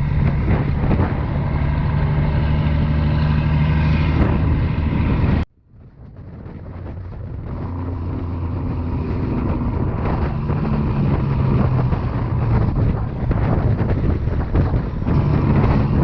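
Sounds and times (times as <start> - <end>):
truck diesel engine running: 0.0 - 5.5, 6.4 - 16.0.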